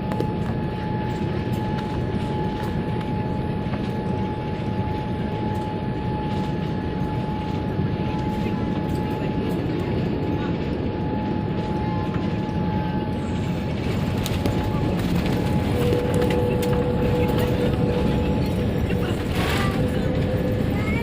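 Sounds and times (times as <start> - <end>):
aeroplane cabin engine rumble: 0.0 - 21.0
constant high whine: 0.0 - 21.0.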